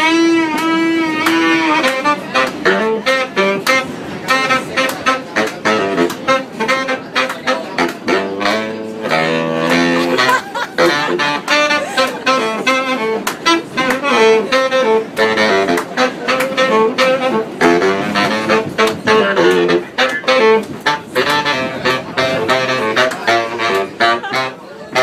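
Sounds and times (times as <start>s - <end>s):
saxophones playing jazz: 0.0s - 25.0s.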